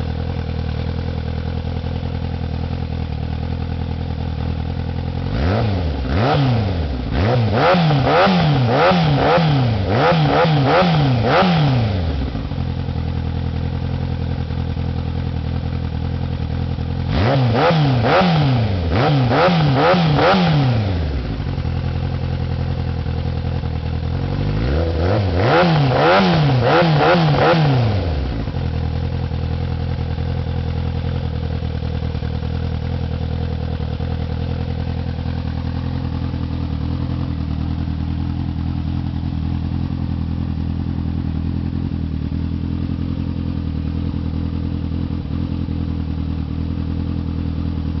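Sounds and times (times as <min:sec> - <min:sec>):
motorcycle engine idling and revving: 0:00.0 - 0:48.0.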